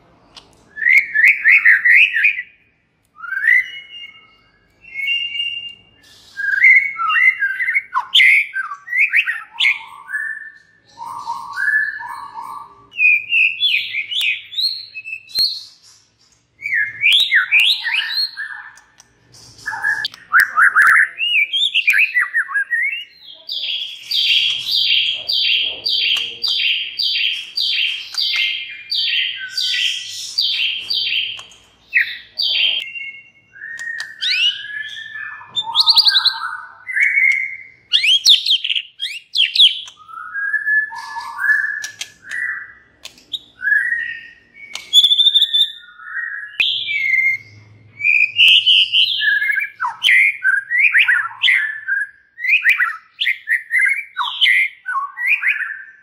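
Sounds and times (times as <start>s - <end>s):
bird singing whistled phrases: 0.7s - 2.6s, 3.2s - 15.8s, 16.6s - 18.8s, 19.6s - 56.0s.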